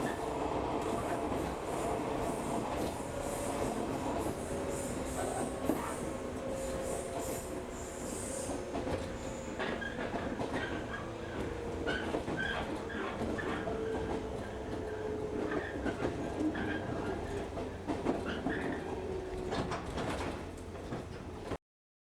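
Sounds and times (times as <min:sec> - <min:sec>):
train wheels rumbling on rail: 0:00.0 - 0:21.6.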